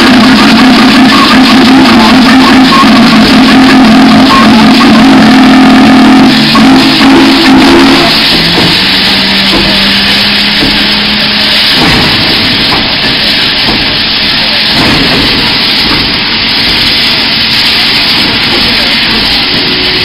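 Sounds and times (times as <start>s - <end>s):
low steady tones: 0.0s - 20.0s
steam train rushing hiss: 0.0s - 20.0s.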